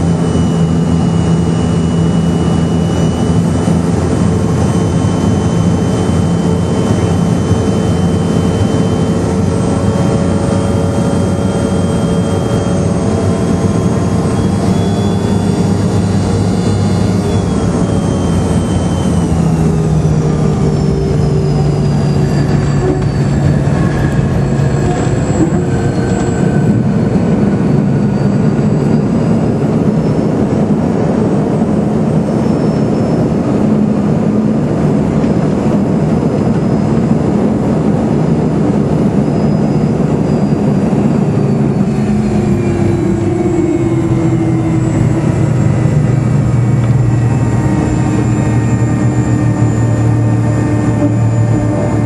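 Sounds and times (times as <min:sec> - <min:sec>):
jet engine whine: 0:00.0 - 0:52.0
low rumble of wheels: 0:00.0 - 0:52.0.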